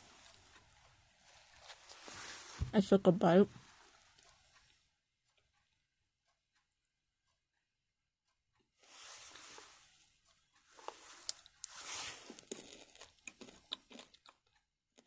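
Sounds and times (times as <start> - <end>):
chewing soft bread: 0.0 - 2.6, 3.7 - 7.6, 8.2 - 15.0.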